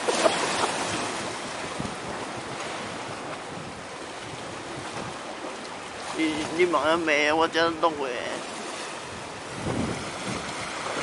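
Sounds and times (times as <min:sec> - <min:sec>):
sea waves washing on shore: 0:00.0 - 0:11.0
wind buffeting microphone: 0:00.0 - 0:11.0.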